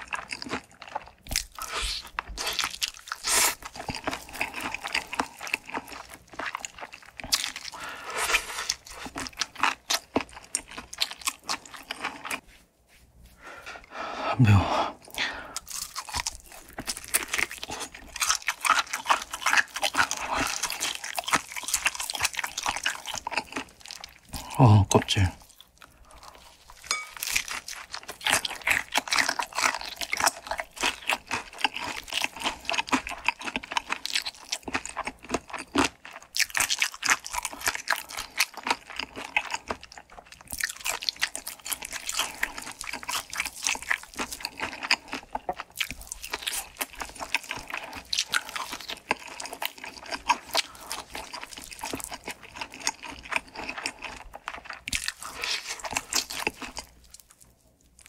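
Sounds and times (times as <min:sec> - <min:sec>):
crunching fried chicken skin: 0:00.0 - 0:12.4, 0:15.5 - 0:24.5, 0:25.4 - 0:58.0.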